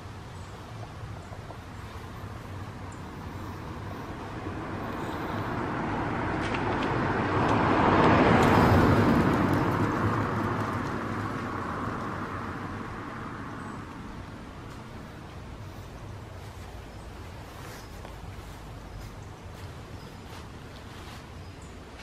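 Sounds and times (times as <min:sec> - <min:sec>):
vehicle passing by: 0:01.5 - 0:21.6.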